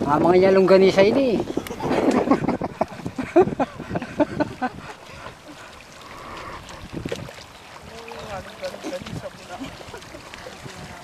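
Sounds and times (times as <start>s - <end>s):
water and mud sloshing: 0.0s - 11.0s.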